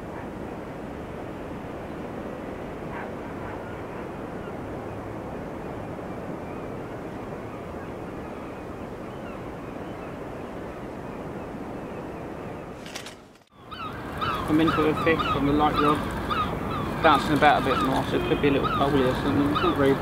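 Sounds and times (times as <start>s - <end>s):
sea waves rushing: 0.0s - 12.8s, 13.6s - 20.0s
wind buffeting microphone: 0.0s - 20.0s.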